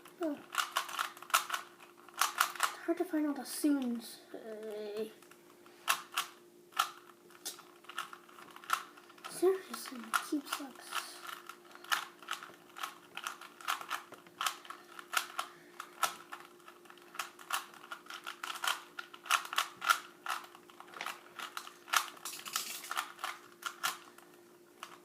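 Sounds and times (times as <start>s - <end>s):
faint steady hum: 0.0s - 25.0s
puzzle cube plastic clicks: 0.4s - 2.8s, 5.9s - 25.0s.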